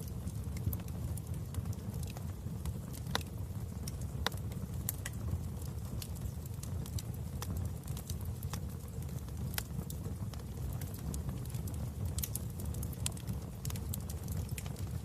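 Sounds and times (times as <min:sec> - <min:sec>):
fire popping and snapping: 0:00.0 - 0:15.0
low rumble of flames: 0:00.0 - 0:15.0.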